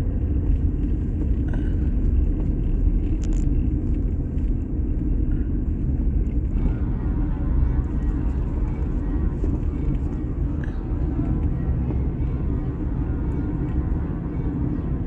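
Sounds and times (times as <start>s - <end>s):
car engine rumble: 0.0s - 15.0s
tyres on road: 0.0s - 15.0s.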